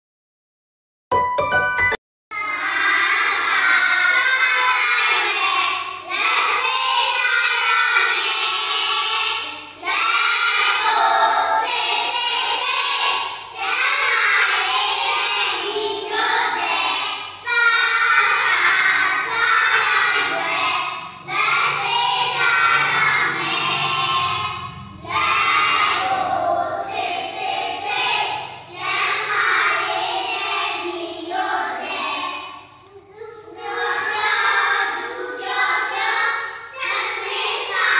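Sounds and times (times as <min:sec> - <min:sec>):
young children singing: 0:02.4 - 0:37.9.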